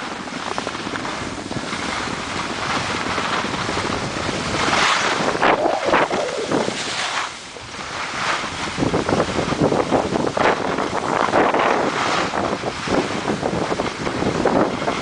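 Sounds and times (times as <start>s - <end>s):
skis scraping over snow: 0.0s - 15.0s
wind buffeting microphone: 0.0s - 15.0s.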